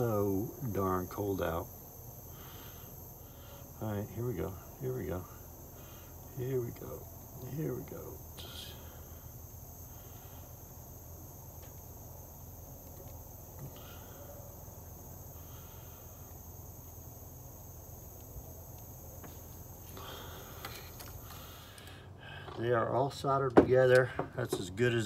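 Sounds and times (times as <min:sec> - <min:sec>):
soldering iron hiss: 0:00.0 - 0:21.8.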